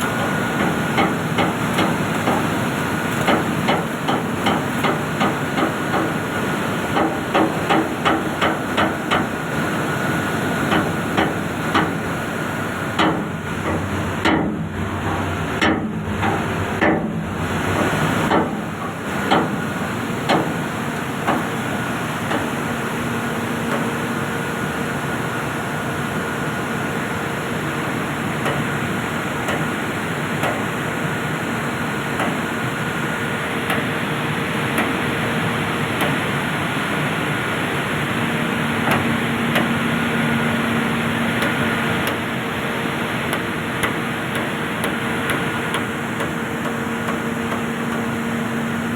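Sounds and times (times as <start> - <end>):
machinery hum and hiss: 0.0 - 48.9.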